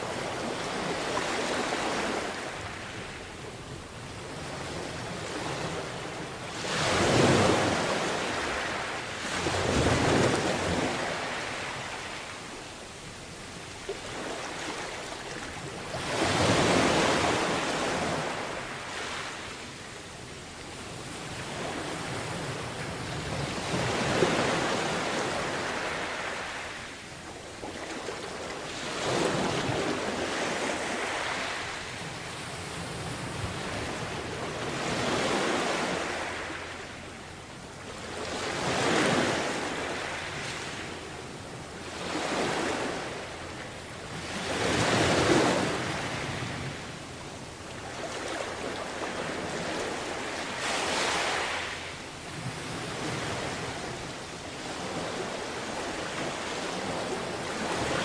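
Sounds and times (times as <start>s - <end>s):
sea waves washing onto beach: 0.0s - 58.0s.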